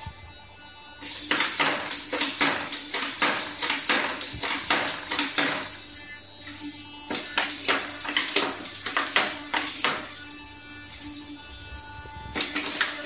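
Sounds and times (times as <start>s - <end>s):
robot servo motors whirring and clicking: 1.0s - 13.0s.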